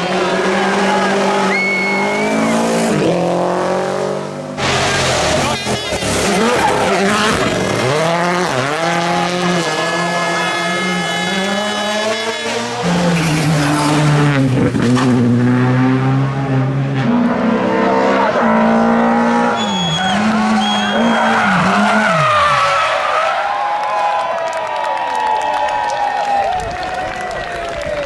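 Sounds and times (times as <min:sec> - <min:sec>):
car engine revving hard: 0:00.0 - 0:23.0.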